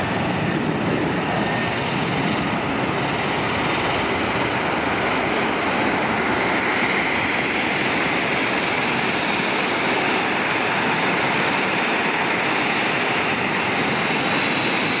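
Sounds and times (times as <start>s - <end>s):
jet aircraft climbing: 0.0s - 15.0s.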